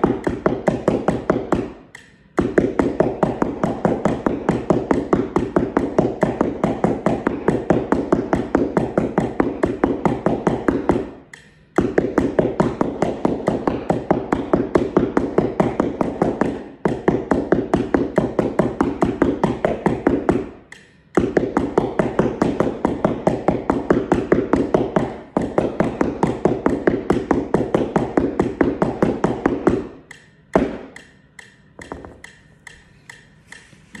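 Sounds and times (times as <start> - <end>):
mallets striking practice keyboard: 0.0 - 32.8.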